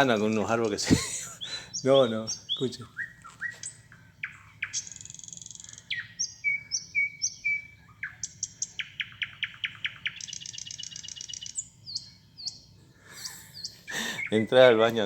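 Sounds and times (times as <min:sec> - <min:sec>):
birdsong over sound system: 0:00.0 - 0:15.0.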